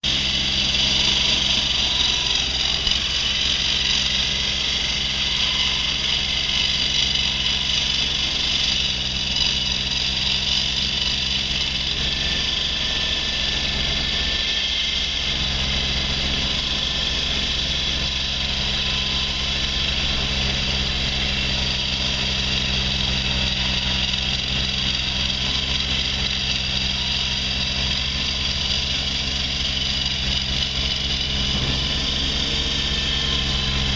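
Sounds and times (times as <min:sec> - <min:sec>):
heavy machinery engine running: 0:00.0 - 0:33.9.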